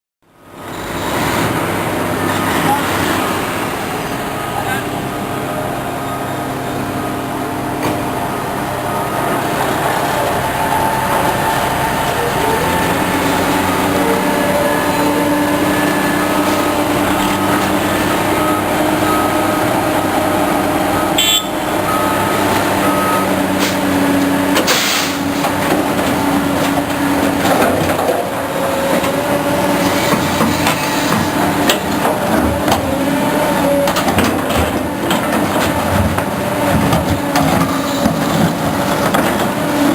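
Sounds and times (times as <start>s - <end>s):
diesel machine engine running: 0.4s - 39.9s.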